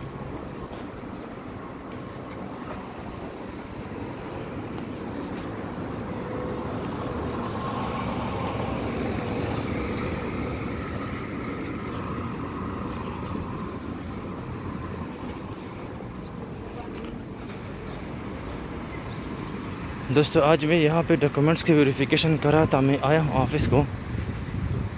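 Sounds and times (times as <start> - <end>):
car engine hum: 0.0 - 20.0
tyre and road noise: 0.0 - 24.9.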